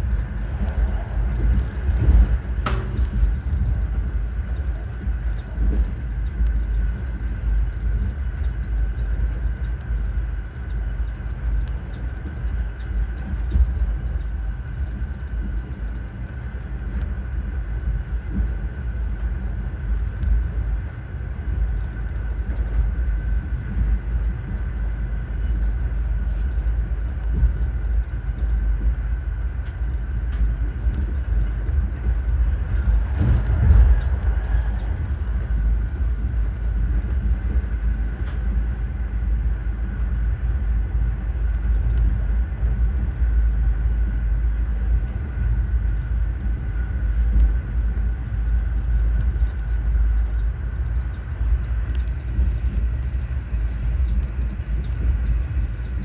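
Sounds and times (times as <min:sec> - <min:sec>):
train clatter: 0:00.0 - 0:21.0, 0:21.7 - 0:40.2, 0:46.8 - 0:56.0
high whine: 0:00.0 - 0:56.0
train rumbling on track: 0:00.0 - 0:56.0.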